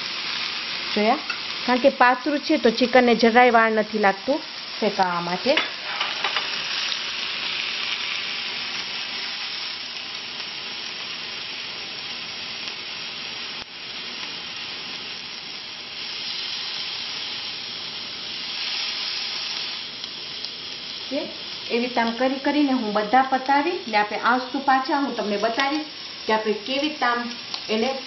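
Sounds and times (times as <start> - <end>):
chicken sizzling on grill pan: 0.0 - 28.0.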